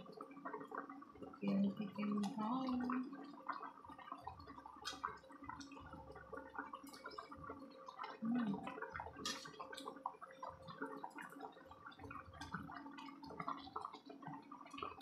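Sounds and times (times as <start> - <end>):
broth boiling and bubbling: 0.0 - 15.0.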